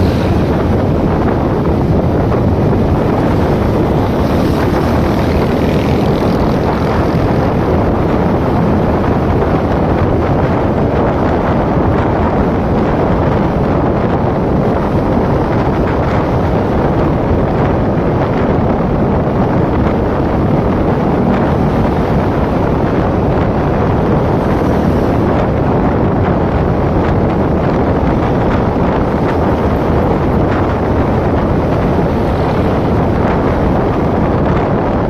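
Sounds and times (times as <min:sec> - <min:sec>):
road noise: 0:00.0 - 0:35.0
wind rush on microphone: 0:00.0 - 0:35.0.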